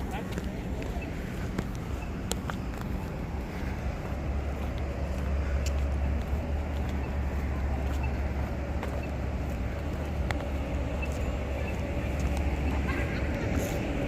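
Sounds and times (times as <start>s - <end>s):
traffic passing: 0.0s - 14.0s.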